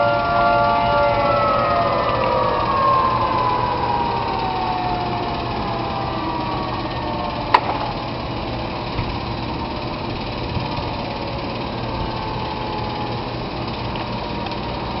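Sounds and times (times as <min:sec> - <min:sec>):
siren winding down: 0:00.0 - 0:15.0
steady mechanical hum: 0:00.0 - 0:15.0.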